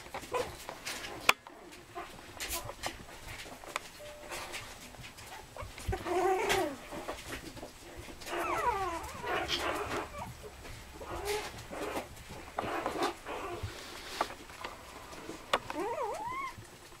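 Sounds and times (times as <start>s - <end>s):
puppies whining: 0.1s - 14.0s, 15.0s - 17.0s.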